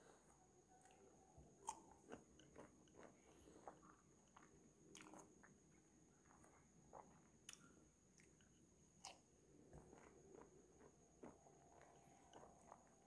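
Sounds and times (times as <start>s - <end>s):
person chewing crisp fruit: 1.6s - 9.2s, 9.8s - 13.0s.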